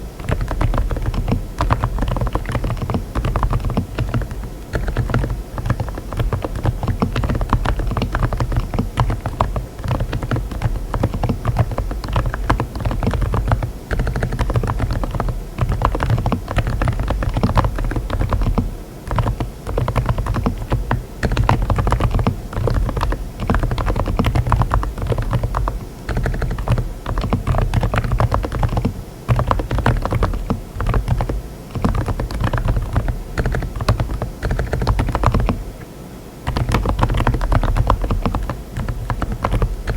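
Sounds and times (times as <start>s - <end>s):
typing on mechanical keyboard: 0.2s - 35.6s, 36.5s - 39.9s.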